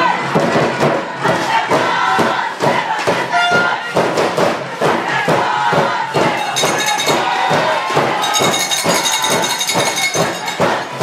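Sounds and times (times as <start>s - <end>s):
crowd cheering and chanting: 0.0s - 11.0s
drum beat: 0.0s - 11.0s.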